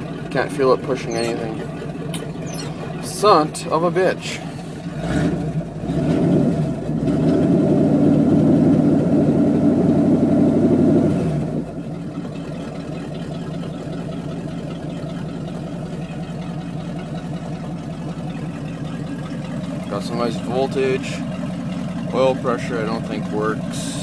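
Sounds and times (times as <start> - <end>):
pickup engine revving and idling: 0.0 - 24.0.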